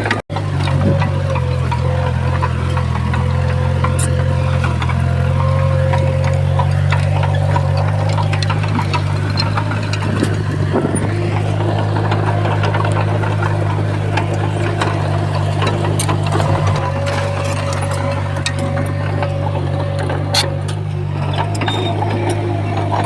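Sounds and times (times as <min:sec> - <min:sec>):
heavy diesel engine running: 0:00.0 - 0:23.0
metallic clicks and clanks: 0:00.0 - 0:23.0.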